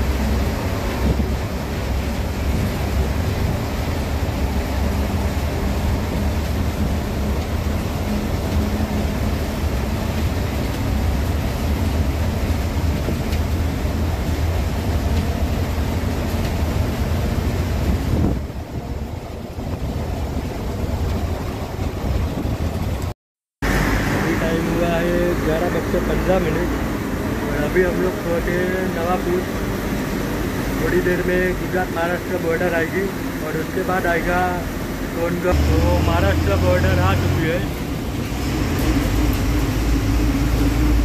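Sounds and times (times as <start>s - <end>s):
bus engine drone: 0.0s - 41.0s
road noise: 0.0s - 41.0s.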